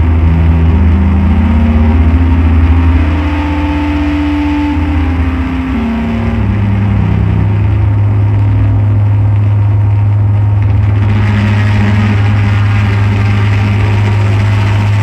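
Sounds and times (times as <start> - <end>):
electronic drone-noise music: 0.0 - 15.0.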